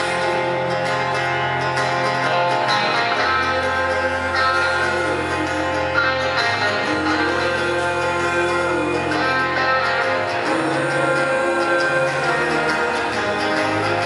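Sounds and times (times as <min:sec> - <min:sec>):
acoustic guitar: 0:00.0 - 0:14.0
bass line: 0:00.0 - 0:14.0
live band playing: 0:00.0 - 0:14.0
voices singing: 0:00.0 - 0:14.0.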